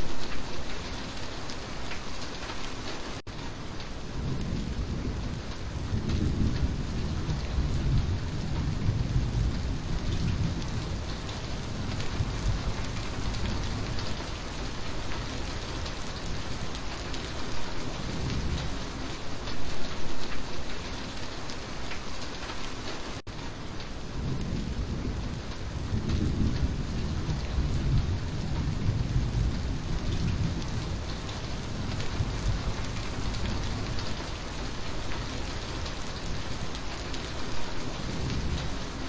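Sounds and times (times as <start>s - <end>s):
rain falling: 0.0s - 39.0s
thunder rumbling: 3.4s - 20.5s, 24.0s - 39.0s.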